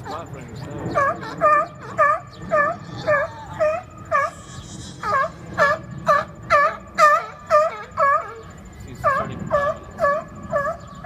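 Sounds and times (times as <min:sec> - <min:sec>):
seals yelping: 0:00.0 - 0:11.0.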